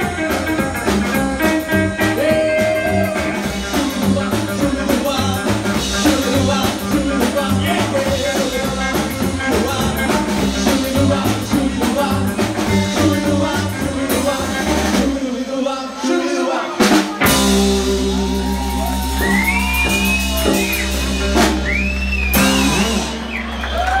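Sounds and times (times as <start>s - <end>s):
drum kit: 0.0s - 15.3s, 16.8s - 24.0s
electric guitar: 0.0s - 15.4s, 16.8s - 24.0s
person singing: 0.0s - 21.4s
upright bass: 0.0s - 24.0s.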